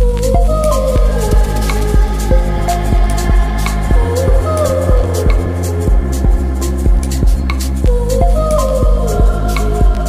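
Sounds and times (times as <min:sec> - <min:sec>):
electronic music drum beat: 0:00.0 - 0:10.0
sliding synth tones: 0:00.0 - 0:10.0.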